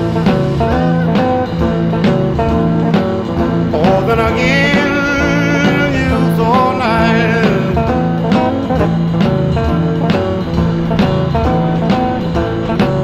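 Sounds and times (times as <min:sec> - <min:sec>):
background music with beat: 0:00.0 - 0:13.0.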